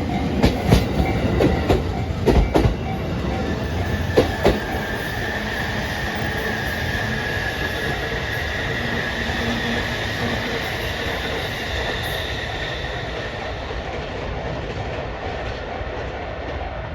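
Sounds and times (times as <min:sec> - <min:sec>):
high wheel squeal: 0:00.0 - 0:13.9
train rolling on rails: 0:00.0 - 0:16.9.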